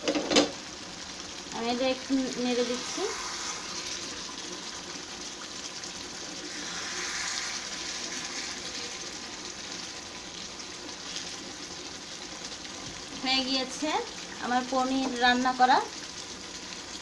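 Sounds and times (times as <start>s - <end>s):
curry sizzling in a pan: 0.0s - 17.0s.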